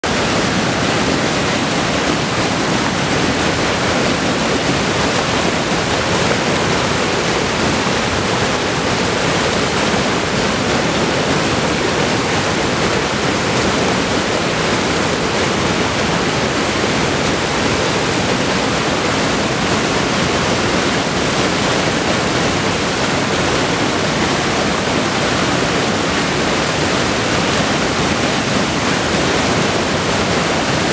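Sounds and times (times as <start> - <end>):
water rushing over shoals: 0.0 - 30.9.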